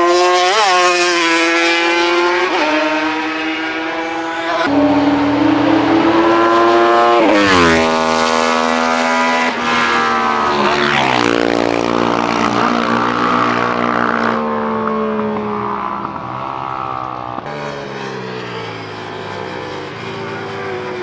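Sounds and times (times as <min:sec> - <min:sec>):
motorcycles passing at speed: 0:00.0 - 0:21.0.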